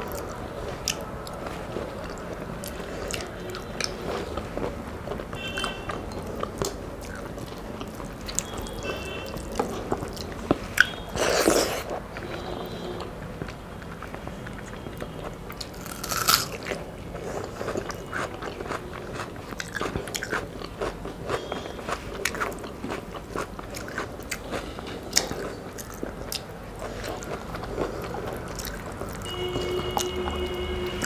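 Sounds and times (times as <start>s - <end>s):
chewing and crunching: 0.0s - 31.0s.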